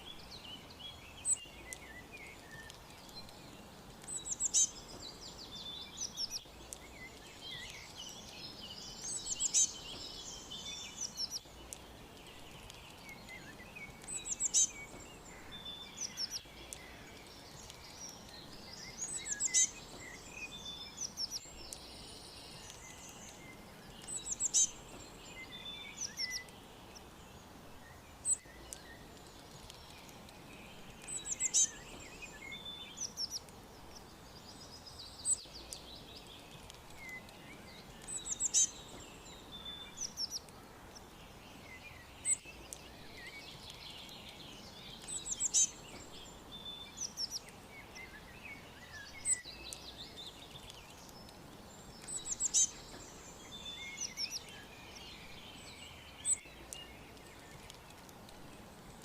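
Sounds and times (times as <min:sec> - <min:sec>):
small birds chirping and trilling: 0:00.0 - 0:59.0
steady background hiss: 0:00.0 - 0:59.0.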